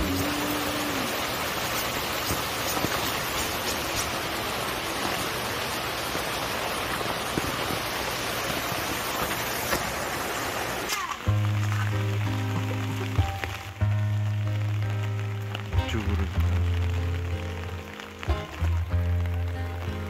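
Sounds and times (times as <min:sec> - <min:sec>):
rain pattering on a tent: 0:00.0 - 0:20.0.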